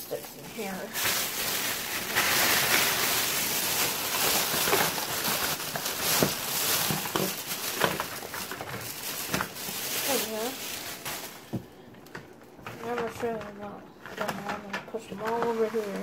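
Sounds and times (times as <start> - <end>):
plastic bag crinkling: 0.0 - 16.0
small items clattering on countertop: 0.1 - 16.0.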